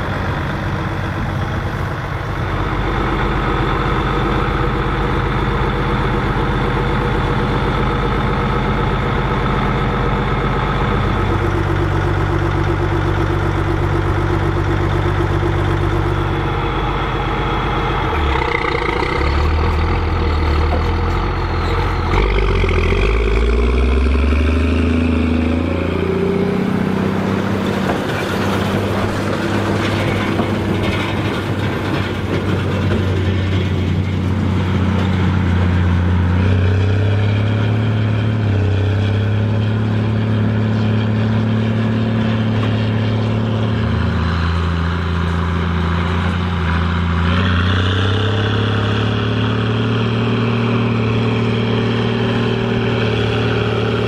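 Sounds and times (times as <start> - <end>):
baler machinery running: 0.0 - 54.0
tractor diesel engine under load: 0.0 - 54.0.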